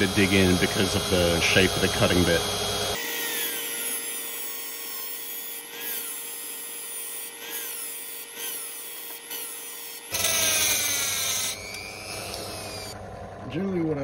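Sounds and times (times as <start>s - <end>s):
rotary tool grinding steel rod: 0.0s - 13.0s.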